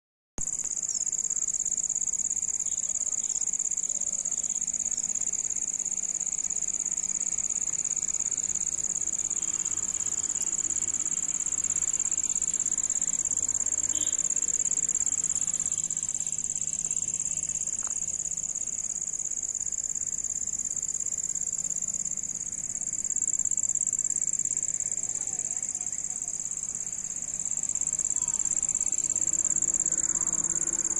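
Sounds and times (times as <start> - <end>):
crickets trilling: 0.4 - 30.9.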